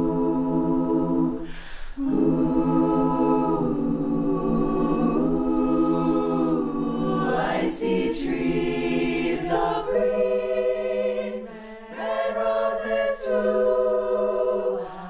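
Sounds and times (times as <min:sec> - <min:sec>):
female chorus singing in harmony: 0:00.0 - 0:15.0.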